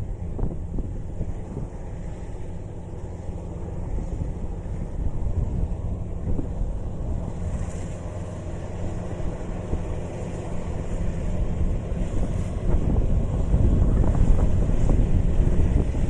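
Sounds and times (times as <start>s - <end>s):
combine harvester engine drone: 0.0s - 16.0s
wind buffeting microphone: 0.0s - 16.0s.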